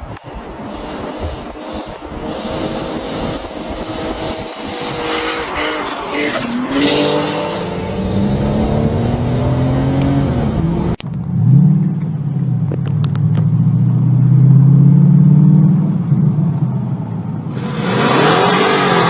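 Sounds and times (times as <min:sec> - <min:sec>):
car engine revving: 0:00.2 - 0:19.0.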